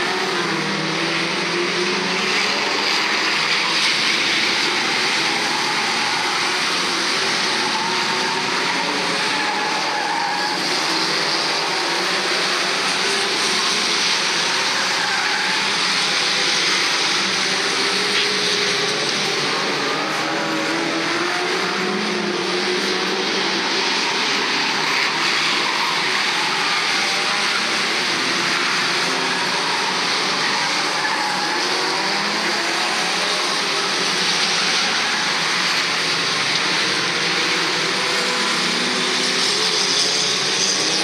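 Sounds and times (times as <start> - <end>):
racing car engines revving: 0.0 - 41.0.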